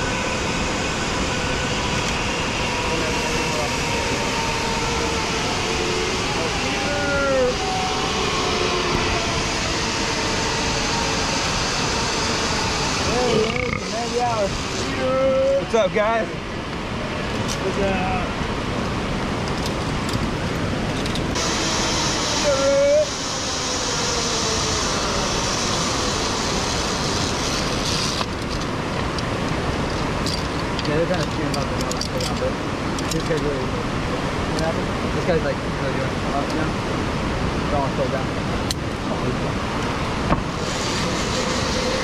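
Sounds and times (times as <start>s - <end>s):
zipline trolley on steel cable: 0.0s - 36.8s, 39.8s - 42.0s.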